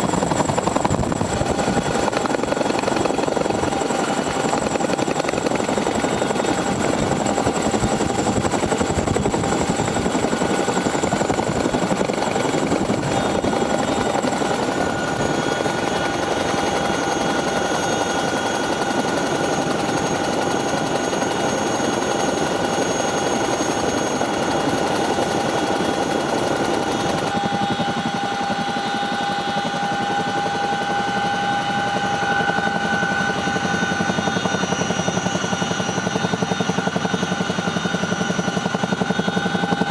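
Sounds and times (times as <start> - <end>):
helicopter rotor chop: 0.0 - 39.9
high turbine whine: 0.0 - 39.9.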